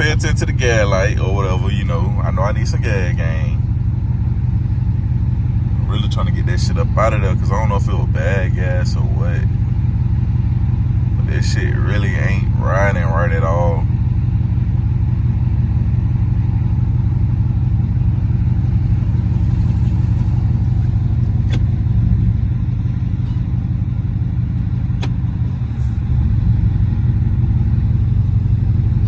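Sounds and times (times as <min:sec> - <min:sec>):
car engine running rough: 0:00.0 - 0:29.0.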